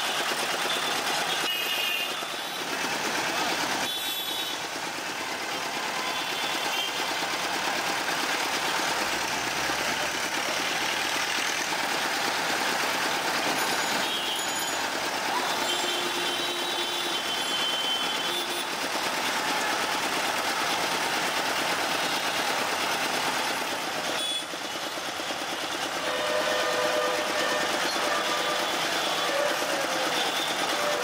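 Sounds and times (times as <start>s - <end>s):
busy street traffic: 0.0s - 31.0s.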